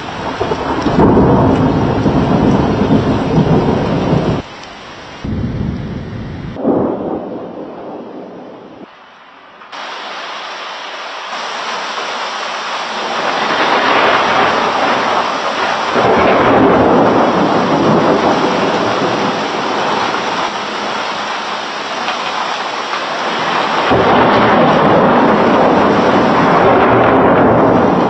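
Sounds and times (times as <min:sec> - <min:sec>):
thunder rolling: 0:00.0 - 0:08.9, 0:11.9 - 0:21.3, 0:22.0 - 0:28.0
heavy rain: 0:00.0 - 0:28.0.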